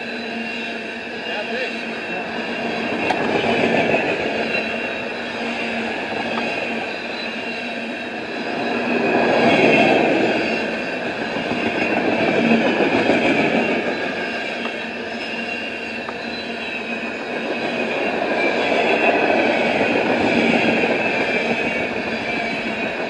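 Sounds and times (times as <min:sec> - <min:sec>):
freight cars rolling on rails: 0:00.0 - 0:23.0.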